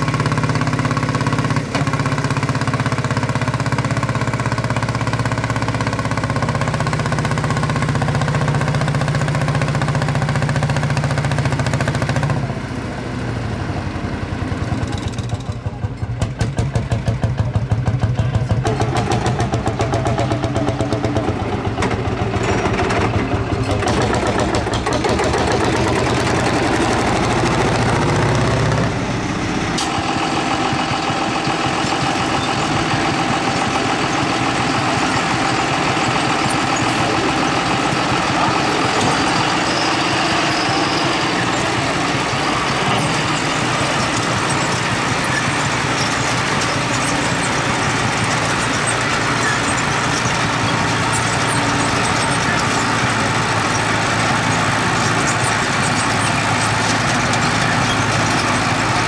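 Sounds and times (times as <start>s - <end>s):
single-cylinder engine pulsing: 0.0s - 59.0s
tractor engine running: 0.0s - 59.0s.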